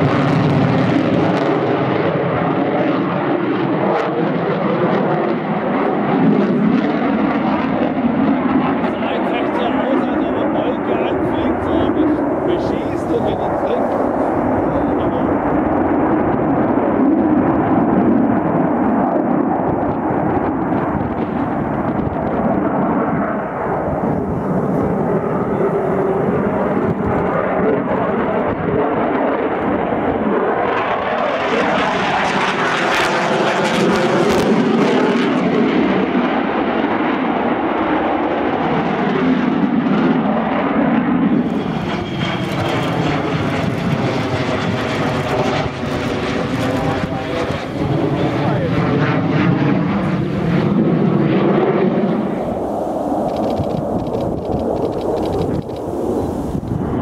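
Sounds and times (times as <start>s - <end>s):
military jet engines roaring: 0.0s - 57.0s.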